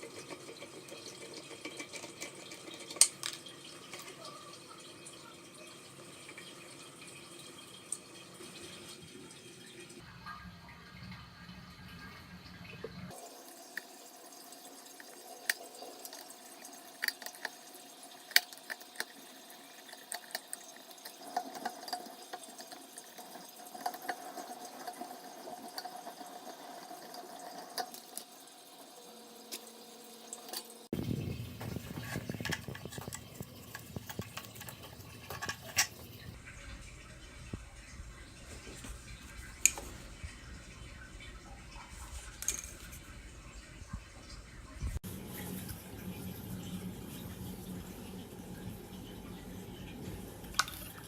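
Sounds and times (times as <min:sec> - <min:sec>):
water trickling and dripping: 0:00.2 - 0:10.1, 0:10.9 - 0:51.0.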